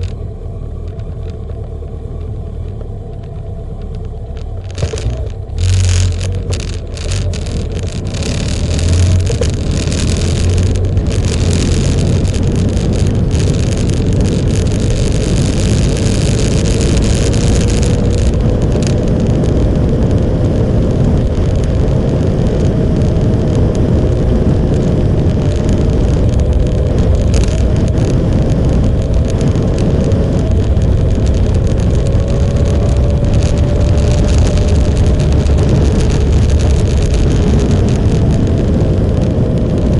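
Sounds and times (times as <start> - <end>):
motorcycle riding: 0.0 - 39.9
wind rush on microphone: 0.0 - 39.9.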